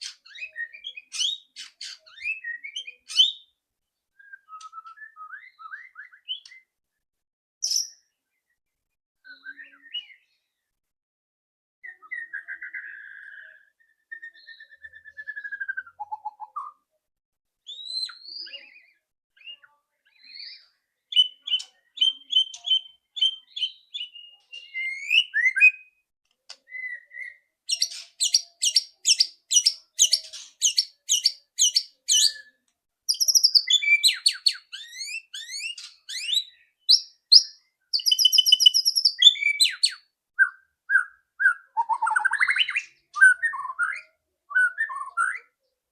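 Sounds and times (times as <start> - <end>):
bird whistling song: 0.0 - 3.5, 4.2 - 6.8, 7.6 - 8.1, 9.2 - 10.3, 11.8 - 16.8, 17.7 - 26.0, 26.6 - 45.6.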